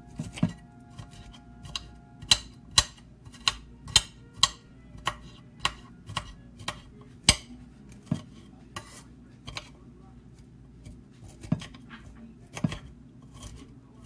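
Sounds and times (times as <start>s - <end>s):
knife chopping on glass board: 0.1s - 9.7s, 10.8s - 13.6s.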